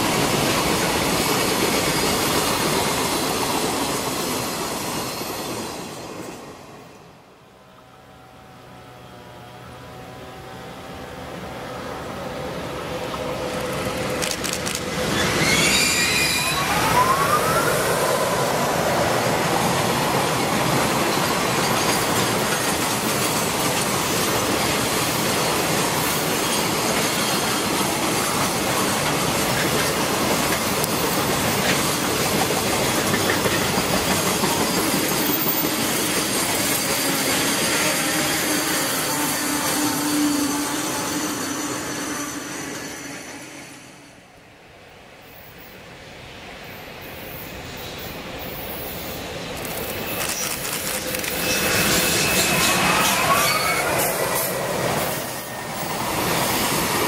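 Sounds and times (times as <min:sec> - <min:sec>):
train wagons rolling on rails: 0:00.0 - 0:44.4, 0:45.0 - 0:57.0.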